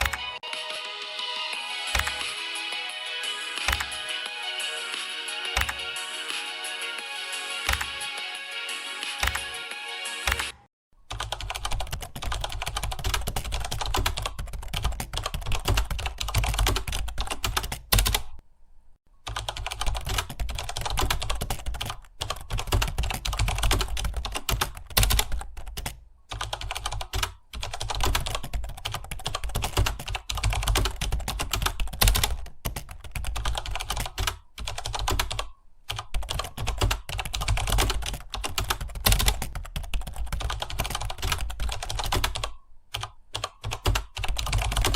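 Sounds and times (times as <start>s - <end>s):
fast typing on keyboard: 1.9s - 2.4s, 3.6s - 4.1s, 5.2s - 6.4s, 7.6s - 8.0s, 9.1s - 9.5s, 10.2s - 18.4s, 19.3s - 44.9s.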